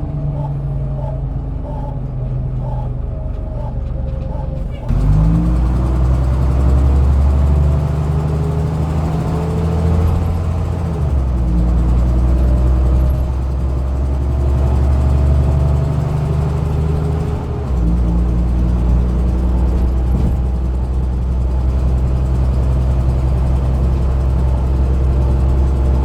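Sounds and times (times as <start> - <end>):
bus diesel engine whining: 0.0 - 26.0.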